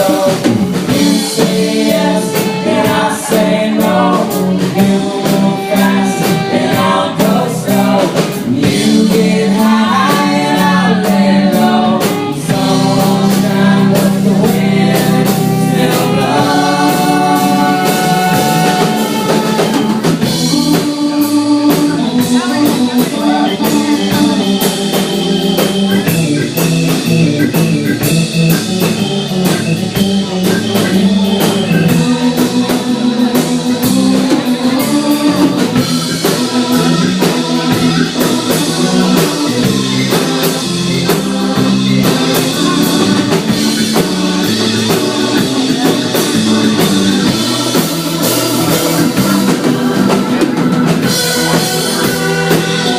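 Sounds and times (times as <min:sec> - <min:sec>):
drum kit beat: 0:00.0 - 0:52.9
guitar melody: 0:00.0 - 0:52.9.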